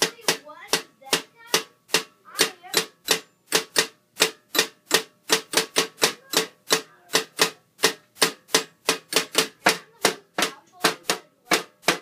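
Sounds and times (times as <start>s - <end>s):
drumsticks tapping toy drums: 0.0s - 12.0s.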